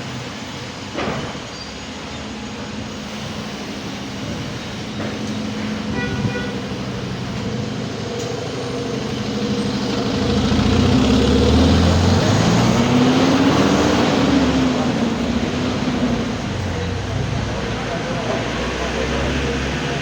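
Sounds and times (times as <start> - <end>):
large vehicle engine running: 0.0 - 20.0
street noise: 0.0 - 20.0.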